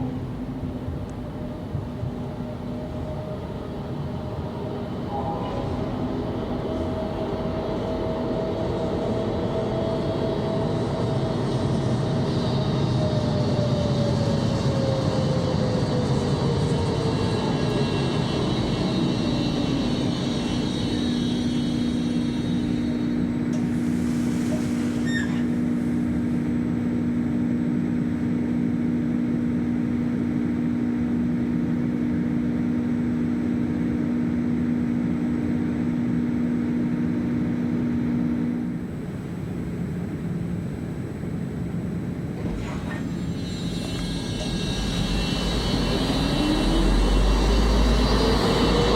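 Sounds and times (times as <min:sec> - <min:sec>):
tram electric drive whining: 0:00.0 - 0:48.9.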